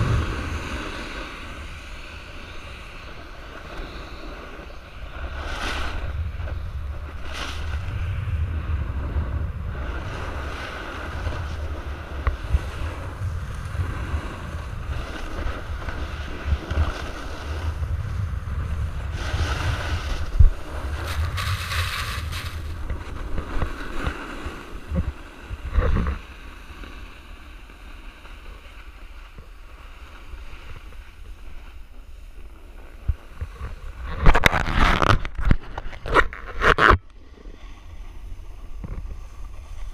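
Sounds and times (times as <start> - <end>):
skis scraping on packed snow: 0.0 - 39.9
wind on camera microphone: 0.0 - 39.9.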